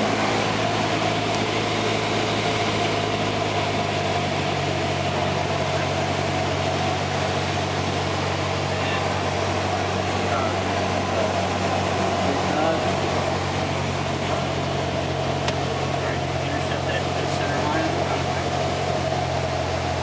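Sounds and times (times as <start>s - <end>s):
aircraft engine droning: 0.0s - 20.0s.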